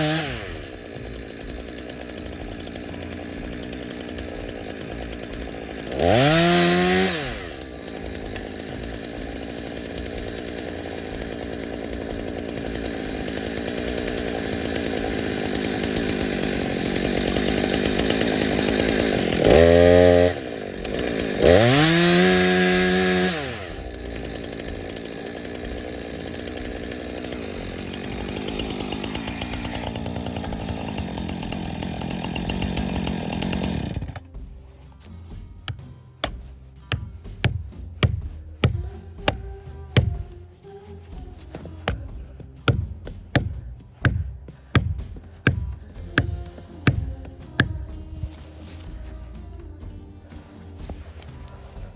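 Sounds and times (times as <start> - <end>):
chainsaw revving and cutting wood: 0.0 - 51.9.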